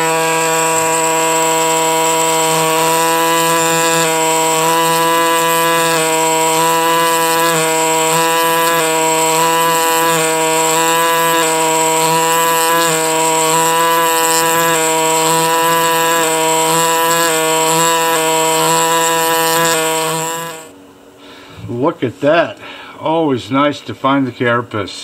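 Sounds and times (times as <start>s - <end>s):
pneumatic air scribe buzzing: 0.0s - 20.8s.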